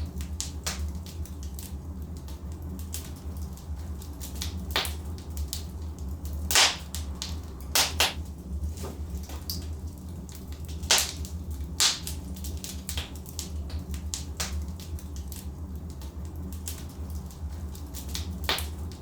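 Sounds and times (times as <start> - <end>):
logs crackling in fireplace: 0.0 - 19.0.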